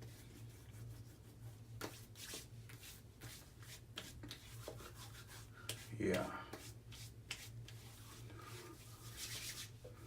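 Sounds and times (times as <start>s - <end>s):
hands patting and rubbing face: 0.0s - 8.2s
low steady hum: 0.0s - 10.0s.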